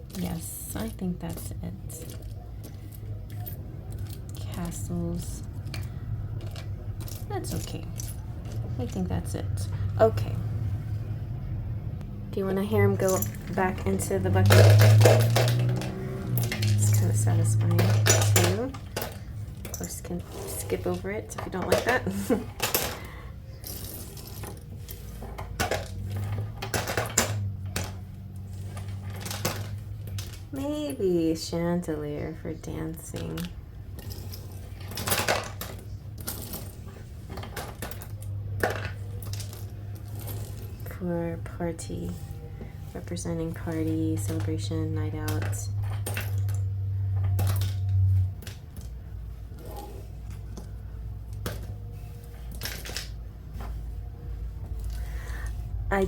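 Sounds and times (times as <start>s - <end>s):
trinkets clattering into a bucket: 0.0s - 9.2s, 12.8s - 30.5s, 33.1s - 41.0s, 42.0s - 49.0s, 49.6s - 53.8s.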